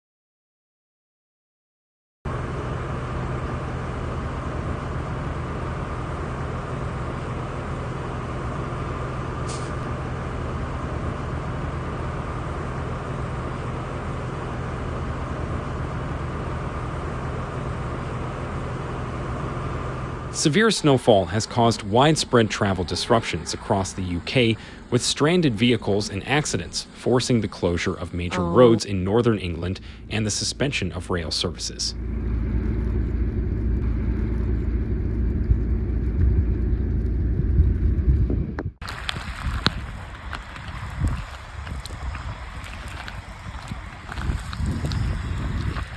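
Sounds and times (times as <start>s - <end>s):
vehicle hum and hiss: 2.3s - 45.9s.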